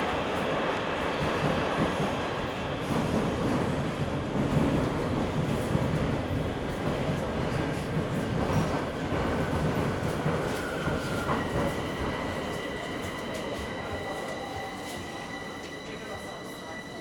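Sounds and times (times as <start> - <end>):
train wheel and track rumble: 0.0 - 17.0.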